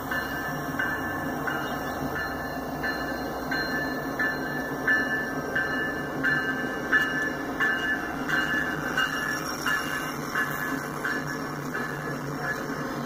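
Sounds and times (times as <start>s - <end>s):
railroad crossing bell dinging: 0.0s - 13.0s
train rumbling: 0.0s - 13.0s.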